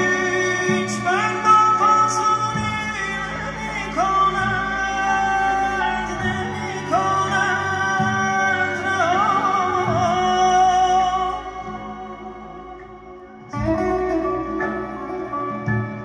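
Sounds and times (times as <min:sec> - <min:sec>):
man singing: 0:00.0 - 0:12.8, 0:13.5 - 0:16.0
bowed strings: 0:00.0 - 0:16.0
sustained low bass notes: 0:00.0 - 0:16.0.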